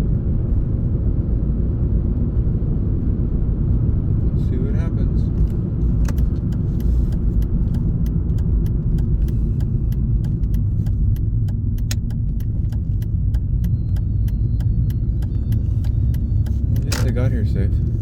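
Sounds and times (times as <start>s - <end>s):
car cabin road noise: 0.0s - 18.0s.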